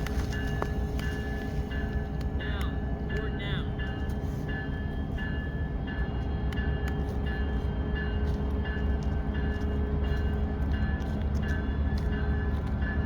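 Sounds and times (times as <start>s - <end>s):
railroad crossing bell ringing: 0.0s - 13.0s.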